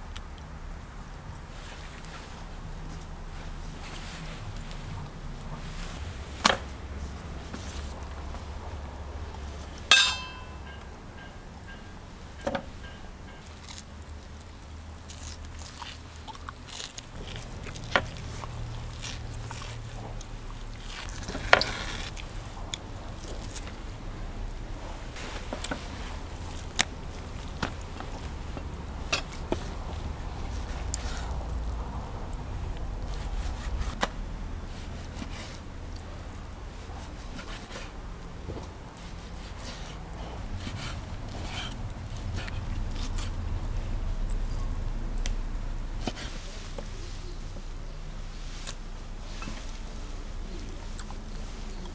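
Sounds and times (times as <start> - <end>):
low steady rumble: 0.0 - 51.9.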